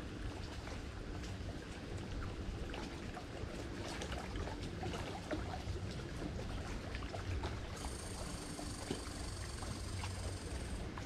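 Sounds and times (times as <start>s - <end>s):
small waves lapping against bank: 0.0s - 11.0s.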